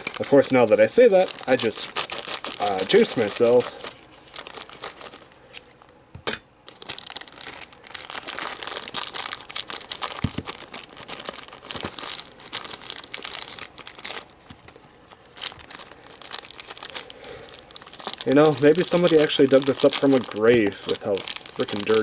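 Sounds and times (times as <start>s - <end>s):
plastic pieces crinkling and clicking: 0.0s - 5.6s, 6.7s - 22.0s.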